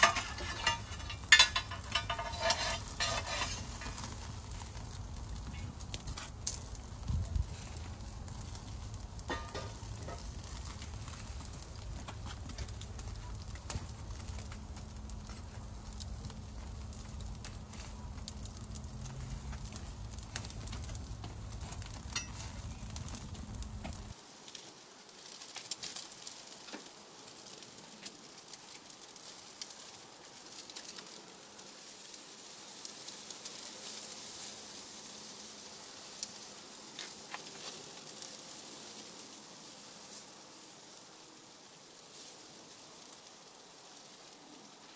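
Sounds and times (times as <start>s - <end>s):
embers crackling and popping: 0.0s - 44.9s
steak sizzling on grill: 0.0s - 44.9s.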